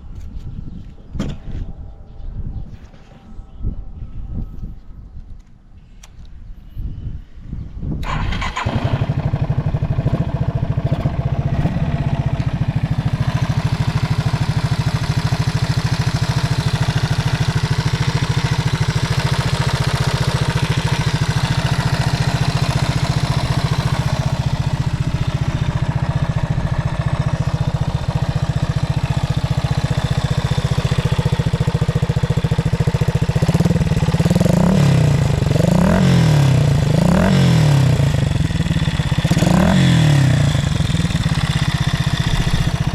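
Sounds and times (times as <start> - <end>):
engine revving: 8.0 - 42.9
motorcycle engine idling: 8.0 - 42.9.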